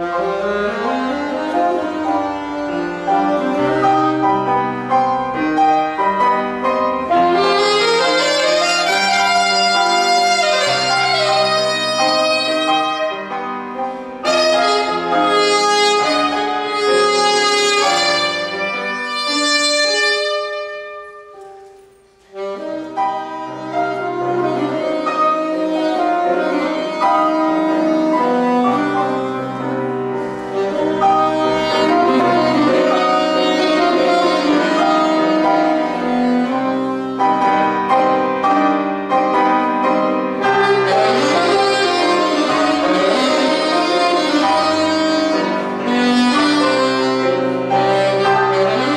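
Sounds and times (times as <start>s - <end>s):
piano chords: 0.0s - 48.9s
saxophone melody: 0.0s - 48.9s.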